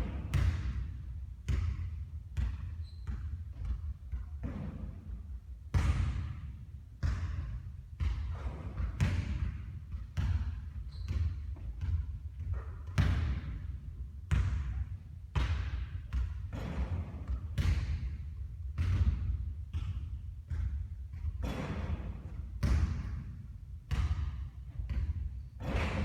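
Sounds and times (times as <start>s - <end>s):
basketball bouncing on court: 0.0s - 26.0s.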